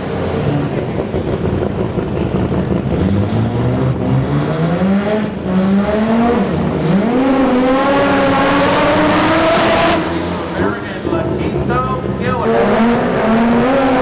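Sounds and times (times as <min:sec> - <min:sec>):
drag car engine at full throttle: 0:00.0 - 0:14.0.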